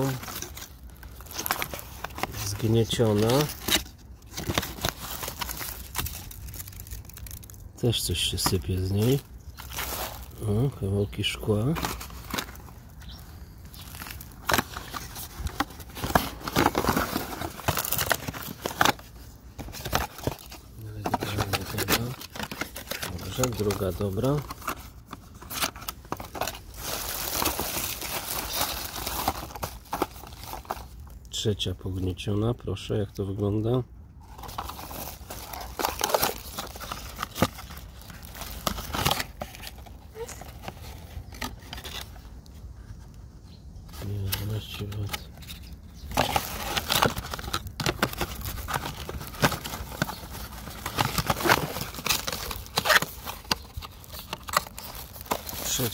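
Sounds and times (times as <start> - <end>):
cardboard and plastic crinkling: 0.0 - 31.4, 33.3 - 43.2, 43.9 - 55.9.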